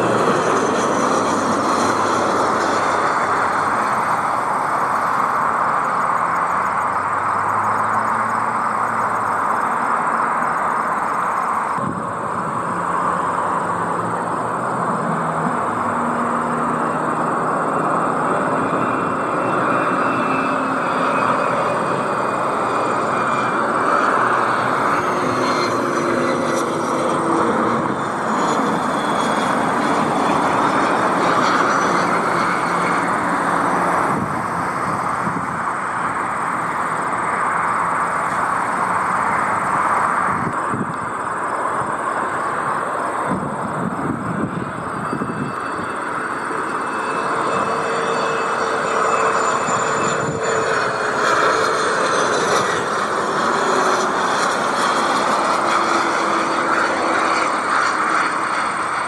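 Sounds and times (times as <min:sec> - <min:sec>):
jet airliner engines passing: 0:00.0 - 0:59.0.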